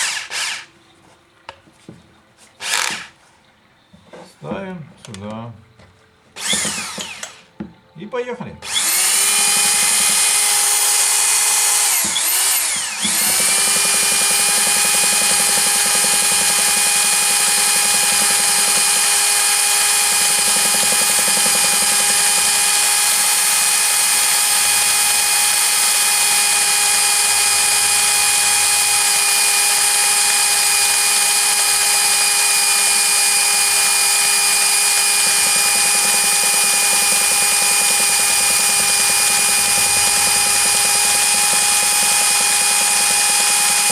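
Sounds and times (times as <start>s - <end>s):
cordless screwdriver whine: 0.0s - 0.7s, 2.6s - 3.1s, 6.4s - 7.5s, 8.6s - 43.9s.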